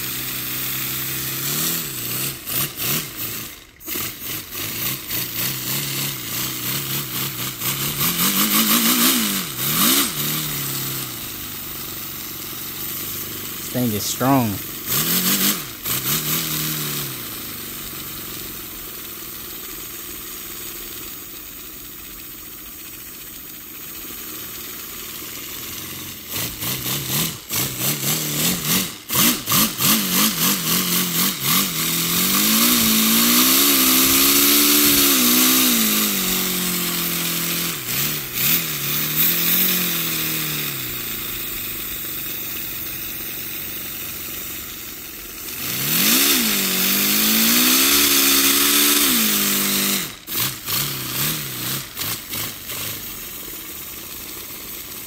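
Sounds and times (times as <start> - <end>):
model engine exhaust buzzing: 0.0 - 55.0.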